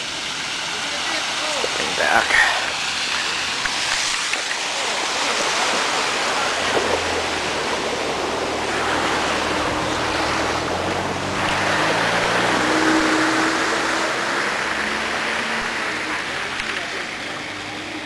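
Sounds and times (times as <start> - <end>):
floodwater rushing over street: 0.0 - 18.0.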